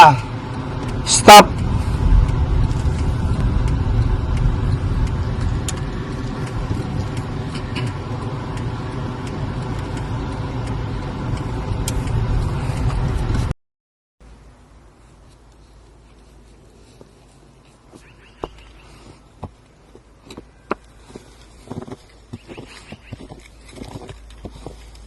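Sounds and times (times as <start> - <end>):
car engine and road rumble: 0.0 - 13.6, 14.2 - 25.0.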